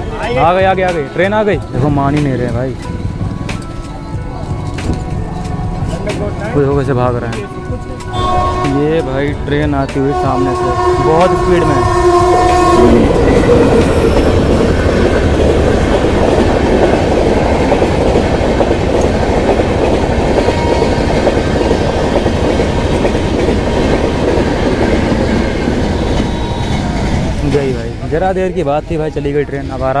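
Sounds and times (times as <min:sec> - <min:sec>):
train wheels rolling on rails: 0:00.0 - 0:30.0.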